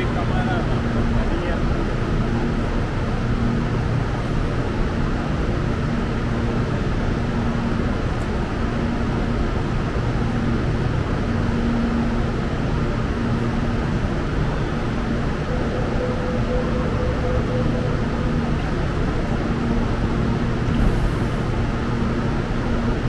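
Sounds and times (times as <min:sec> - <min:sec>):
electric train rumbling: 0:00.0 - 0:23.0
train hum: 0:00.0 - 0:23.0.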